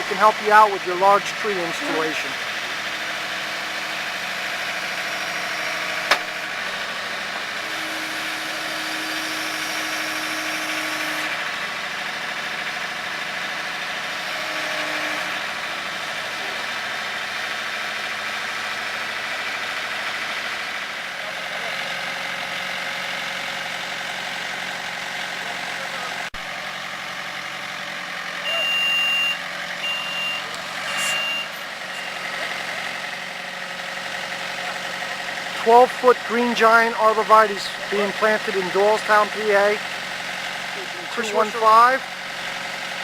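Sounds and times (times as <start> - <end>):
heavy equipment engine running: 0.0 - 43.0.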